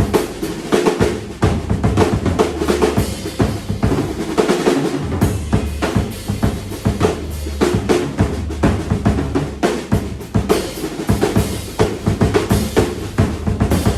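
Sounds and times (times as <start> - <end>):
bass drum strikes: 1.4 - 13.9.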